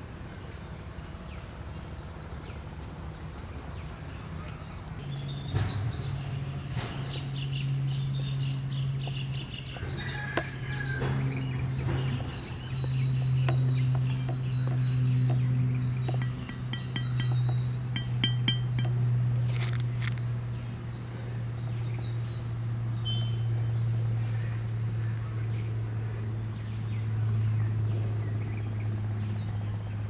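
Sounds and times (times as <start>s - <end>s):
steady low hum: 0.0s - 30.0s
small birds chirping: 1.3s - 30.0s.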